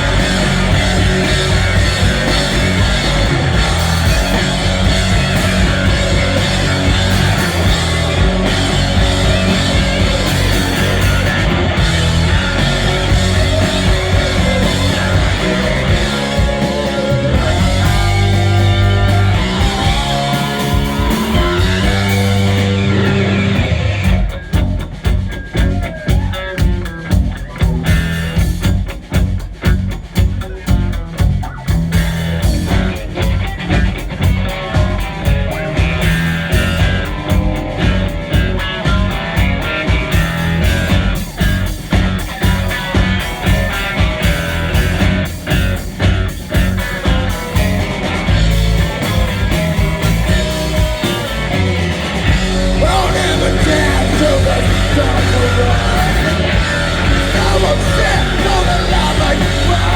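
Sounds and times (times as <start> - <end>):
electric guitar: 0.0 - 59.9
fast drum beat: 0.0 - 59.9
rock band playing: 0.0 - 59.9.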